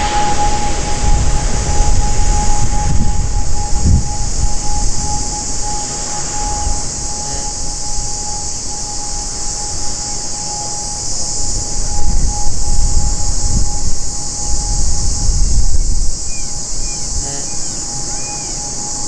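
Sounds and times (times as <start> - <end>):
distant turboprop airliner drone: 0.0 - 19.0
high hiss: 0.0 - 19.0
thin whistle-like tone: 0.0 - 19.0
wind buffeting microphone: 0.0 - 19.0.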